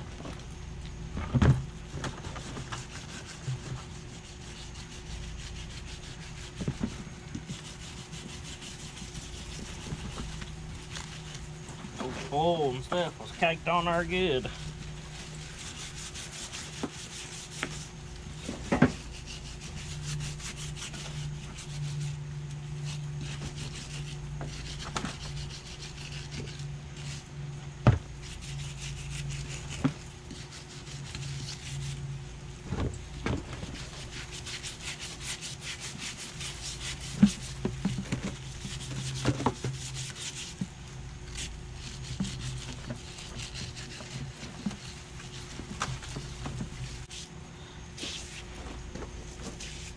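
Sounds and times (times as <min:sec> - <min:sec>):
wire brush scrubbing metal: 0:02.3 - 0:11.5, 0:12.1 - 0:27.3, 0:28.2 - 0:32.0, 0:33.6 - 0:47.3.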